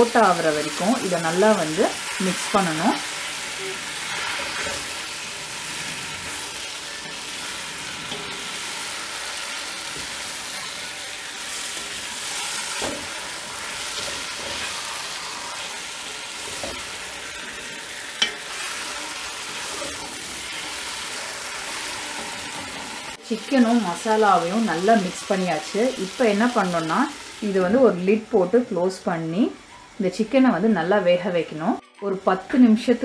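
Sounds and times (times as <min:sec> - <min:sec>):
chicken sizzling in hot oil: 0:00.0 - 0:27.9.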